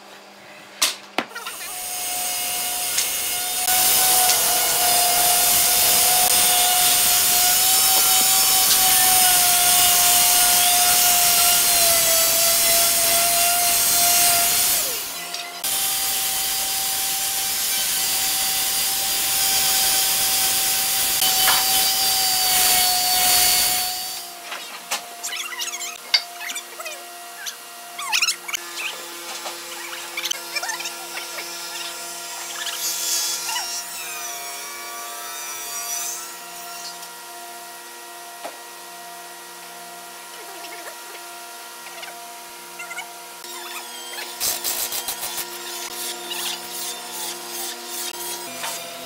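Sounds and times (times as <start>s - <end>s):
electric sander on wood: 1.4s - 49.0s.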